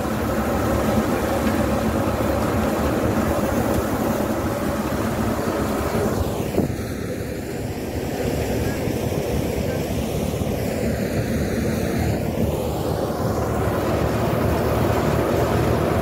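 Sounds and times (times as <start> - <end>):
thresher and tractor engine drone: 0.0 - 16.0.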